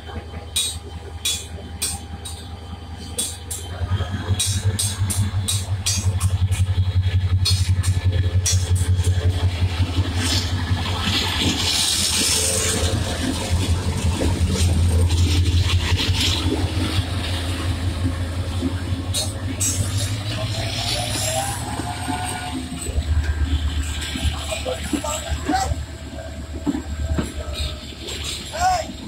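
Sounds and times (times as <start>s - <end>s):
locomotive engine rumbling: 0.0s - 29.0s
clatter and scraping: 0.2s - 28.8s.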